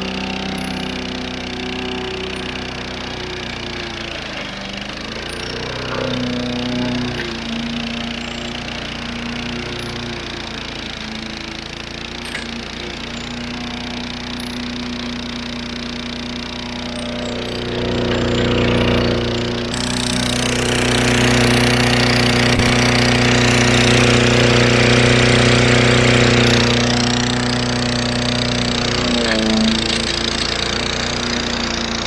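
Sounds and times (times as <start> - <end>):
lawnmower engine running hard: 0.0 - 32.0.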